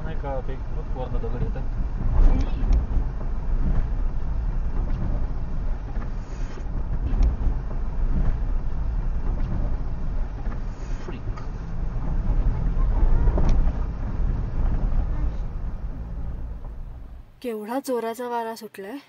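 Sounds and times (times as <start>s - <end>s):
car rolling over rocky gravel: 0.0s - 17.4s.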